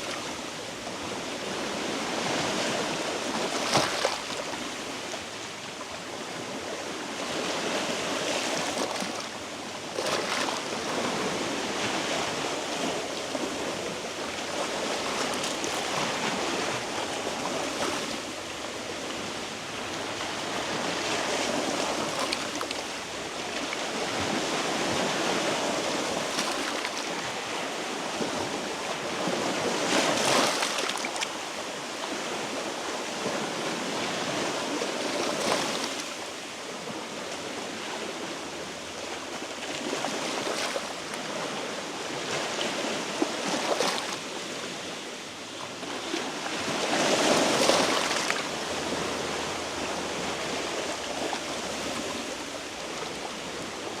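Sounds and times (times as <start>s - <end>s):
waves breaking on rocky shore: 0.0s - 54.0s.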